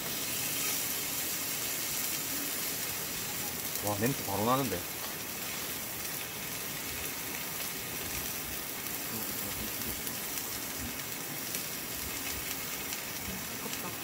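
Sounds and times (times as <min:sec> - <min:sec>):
steak sizzling on a griddle pan: 0:00.0 - 0:14.0.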